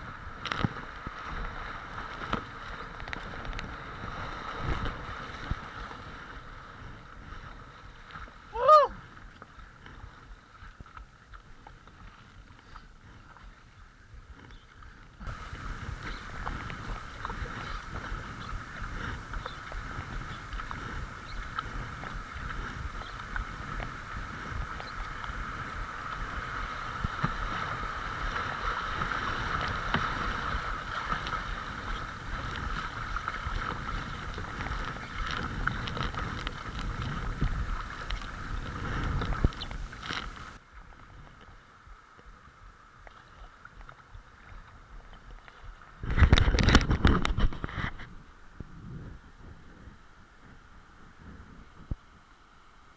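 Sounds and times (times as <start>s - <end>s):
river water rushing and splashing: 0.0s - 13.5s, 15.2s - 48.6s
wind buffeting microphone: 0.0s - 52.4s.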